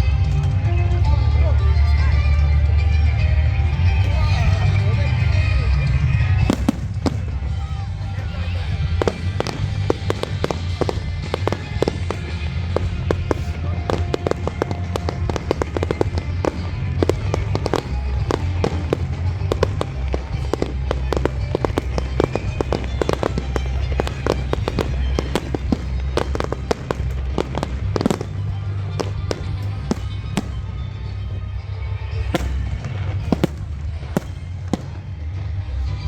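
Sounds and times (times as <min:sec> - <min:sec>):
fireworks bangs and crackling: 0:00.0 - 0:36.0
music playing: 0:00.0 - 0:36.0.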